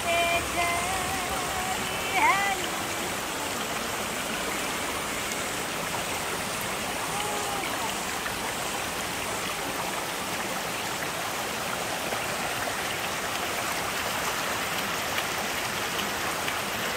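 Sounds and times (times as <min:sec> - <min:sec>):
stream running over rocks: 0:00.0 - 0:16.9.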